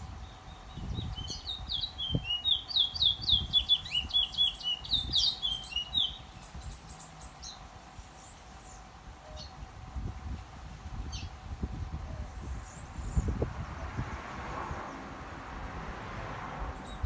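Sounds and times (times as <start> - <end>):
songbird singing: 0.0 - 10.2, 11.0 - 15.2, 16.7 - 17.0.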